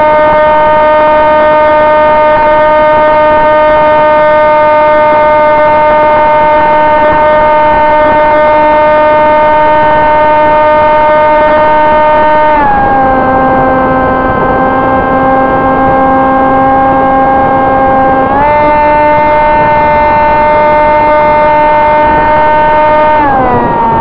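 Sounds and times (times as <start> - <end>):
electric motor and propeller whining: 0.0 - 24.0.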